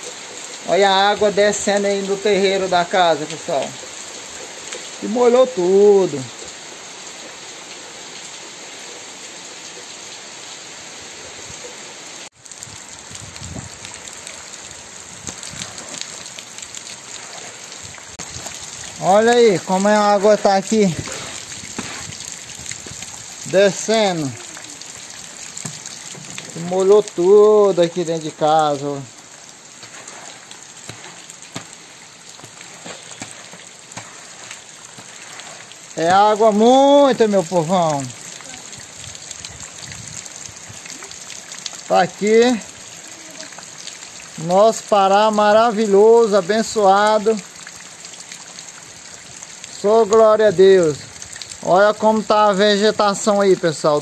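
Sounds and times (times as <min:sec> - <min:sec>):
drips and splashes: 0:00.0 - 0:54.0
heavy rain on wet ground: 0:00.0 - 0:54.0.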